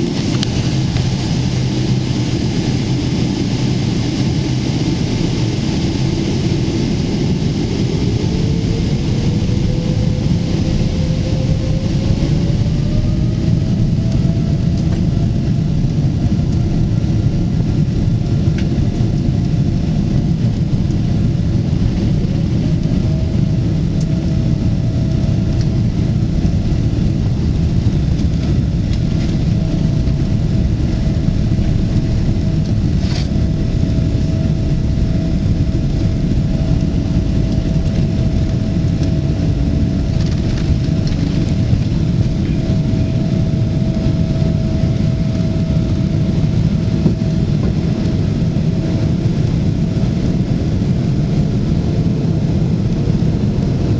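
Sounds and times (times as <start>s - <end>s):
jet engine cabin rumble: 0.0s - 53.9s
steady whine: 0.0s - 53.9s.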